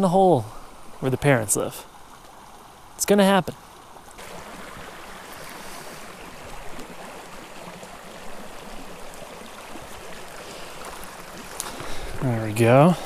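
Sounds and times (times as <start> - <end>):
creek flowing over rocks: 0.0 - 13.0.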